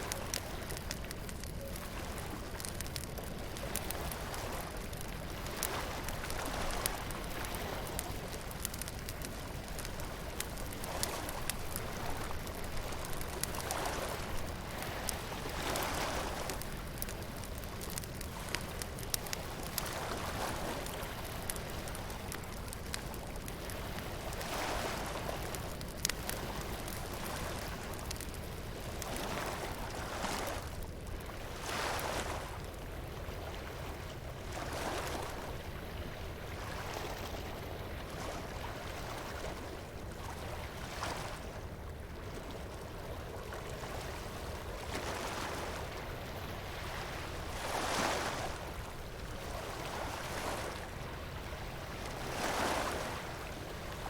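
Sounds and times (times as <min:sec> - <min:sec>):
surf washing ashore: 0:00.0 - 0:32.7, 0:33.4 - 0:35.8, 0:36.4 - 0:41.7, 0:42.3 - 0:54.0
bonfire crackling: 0:00.0 - 0:54.0.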